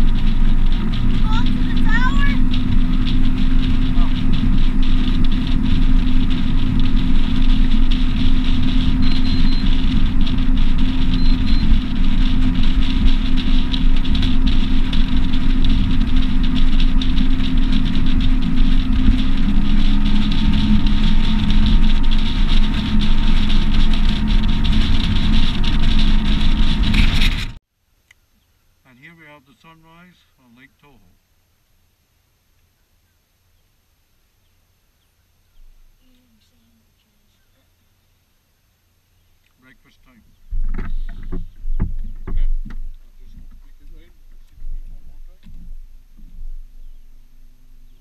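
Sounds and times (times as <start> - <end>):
outboard motor running: 0.0 - 27.6, 35.0 - 48.0.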